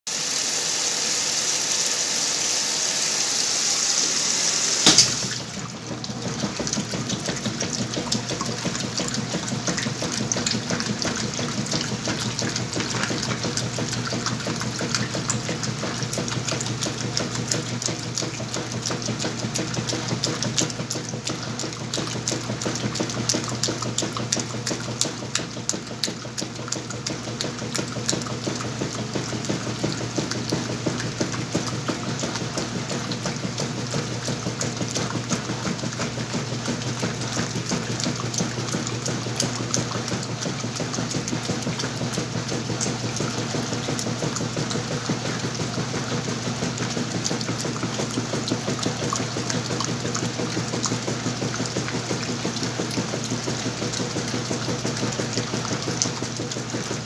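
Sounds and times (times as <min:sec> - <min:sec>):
washing machine motor humming: 0:00.1 - 0:57.0
water pouring into washer tub: 0:00.1 - 0:57.0
water churning and sloshing: 0:01.4 - 0:57.0.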